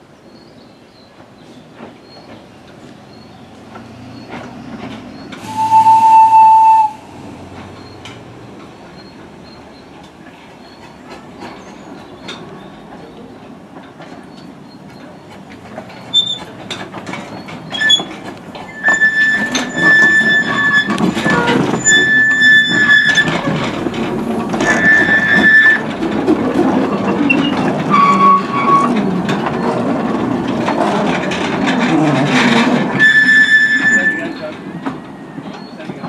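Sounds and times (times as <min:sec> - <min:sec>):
rail joints clicking: 0:00.3 - 0:36.0
train wheels squealing: 0:00.4 - 0:13.3, 0:14.1 - 0:23.8, 0:24.5 - 0:26.0, 0:27.0 - 0:29.8, 0:32.9 - 0:36.0
miniature steam train running: 0:00.6 - 0:36.0.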